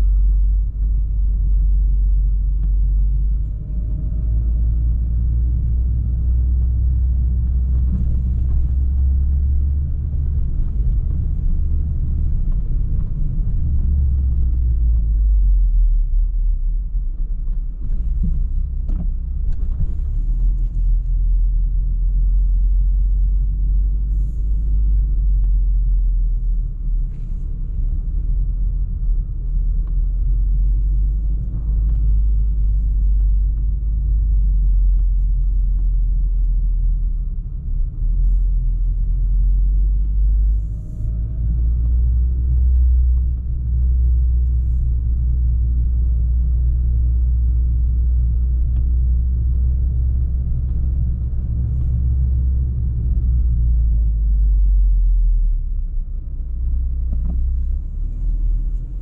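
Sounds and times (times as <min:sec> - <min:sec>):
car engine and exhaust rumble: 0:00.0 - 0:59.0.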